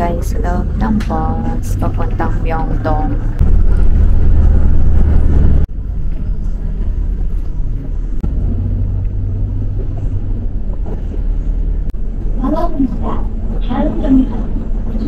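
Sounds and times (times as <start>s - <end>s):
bus rumbling in motion: 0.0s - 15.0s.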